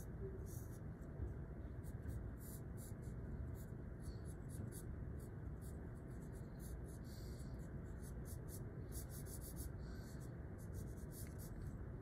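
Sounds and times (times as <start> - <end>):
pencil scratching on paper: 1.7 - 11.7.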